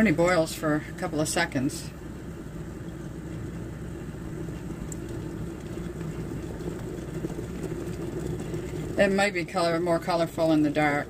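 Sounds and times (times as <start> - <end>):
faint low hum: 0.0 - 11.0
kettle water boiling: 0.0 - 11.0.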